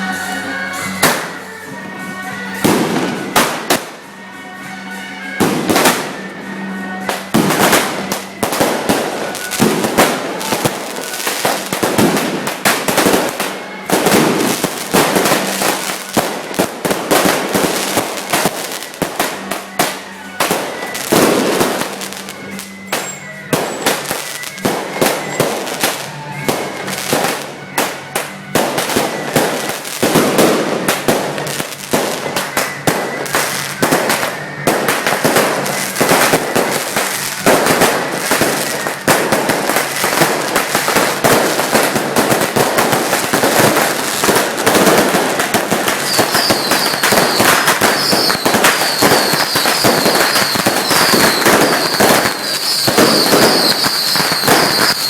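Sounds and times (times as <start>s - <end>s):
firecrackers crackling: 0.0s - 55.0s.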